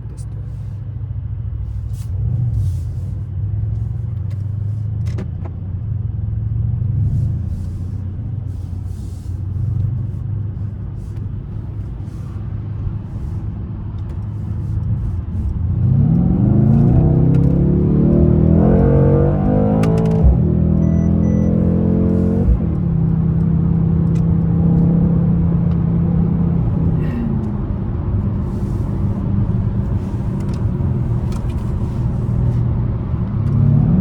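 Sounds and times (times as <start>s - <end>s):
car engine accelerating: 6.0s - 34.0s.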